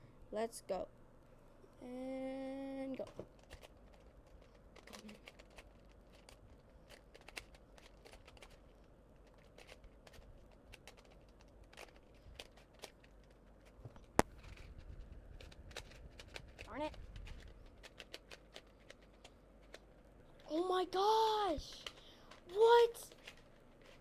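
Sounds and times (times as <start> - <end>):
puzzle cube plastic clicks: 3.0 - 20.6, 21.6 - 24.0.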